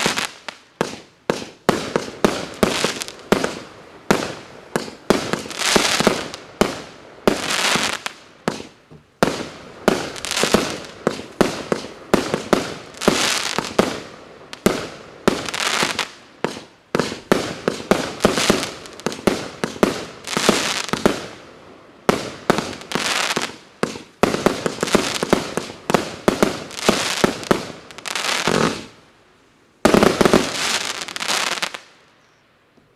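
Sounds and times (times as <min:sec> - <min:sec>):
fireworks bangs and crackling: 0:00.0 - 0:29.0, 0:29.8 - 0:31.9.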